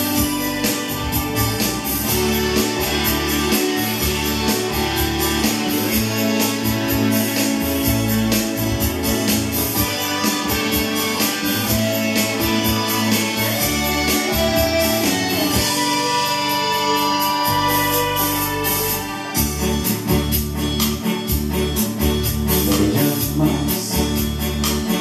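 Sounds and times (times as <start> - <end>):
guitar-led music over a steady beat: 0.0 - 25.0.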